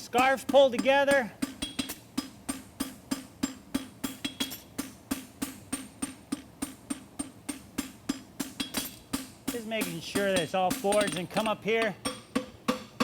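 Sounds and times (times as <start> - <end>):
hammer striking steel on anvil: 0.0 - 13.0.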